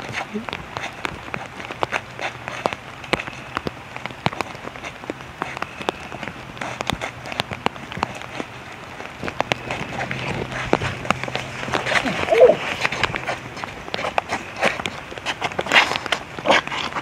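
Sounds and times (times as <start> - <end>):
rain hissing: 0.0 - 16.9
raindrops ticking close by: 0.0 - 17.0.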